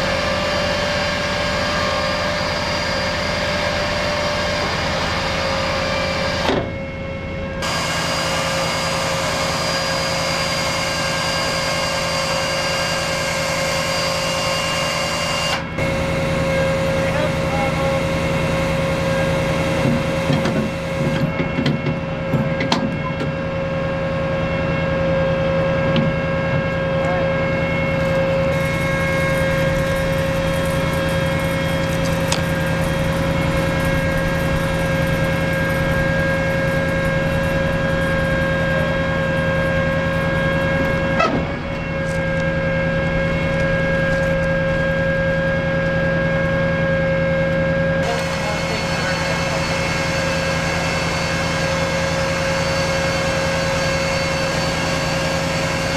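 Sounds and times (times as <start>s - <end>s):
constant mechanical whine: 0.0s - 55.9s
diesel engine running: 0.0s - 55.9s.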